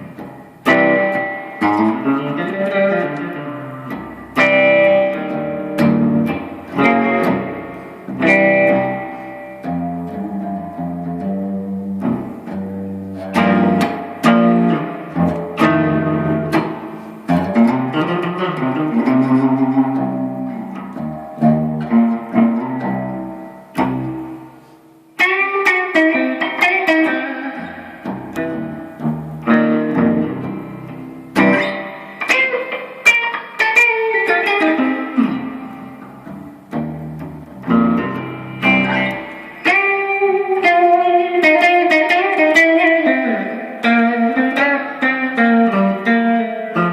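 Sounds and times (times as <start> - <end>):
guitar plucked notes and chords: 0.0 - 46.9.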